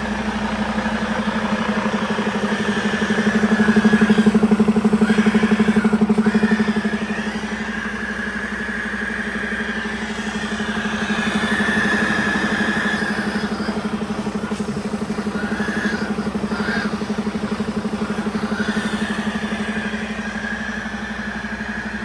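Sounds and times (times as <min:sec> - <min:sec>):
diesel engine idling: 0:00.0 - 0:22.0
high whine: 0:00.0 - 0:22.0.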